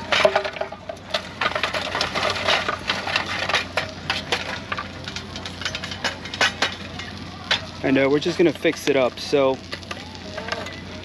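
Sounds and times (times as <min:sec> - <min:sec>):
charcoal clattering into grill: 0:00.0 - 0:10.8.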